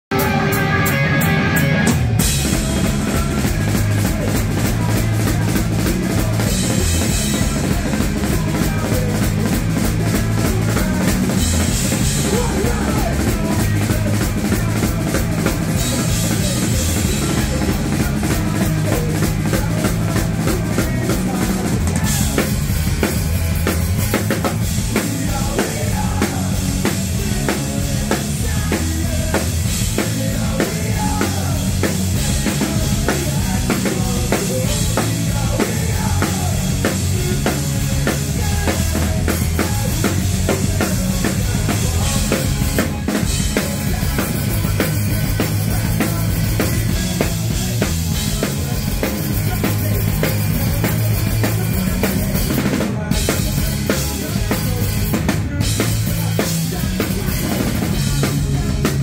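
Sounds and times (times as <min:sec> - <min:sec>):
punk rock band playing live: 0:00.0 - 0:59.0
drum kit with crashing cymbals: 0:00.1 - 0:59.0.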